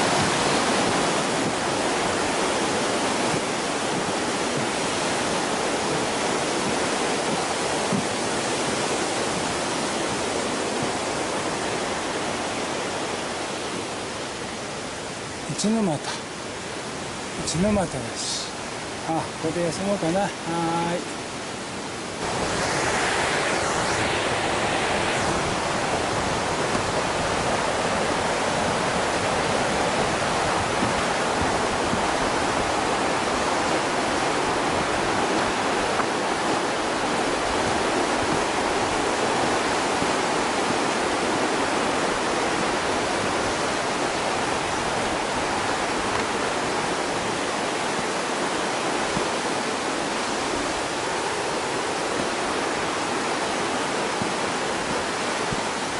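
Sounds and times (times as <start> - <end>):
river rushing over rocks: 0.0 - 55.9.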